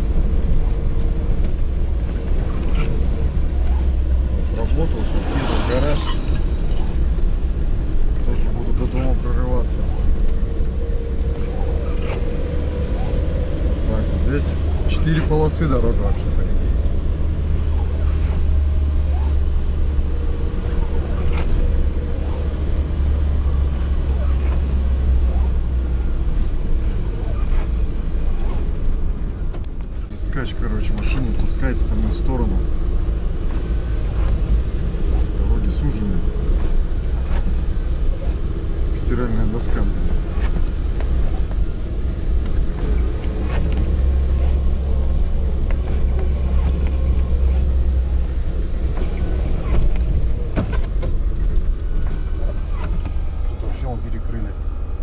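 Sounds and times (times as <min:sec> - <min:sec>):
van engine droning: 0:00.0 - 0:55.0.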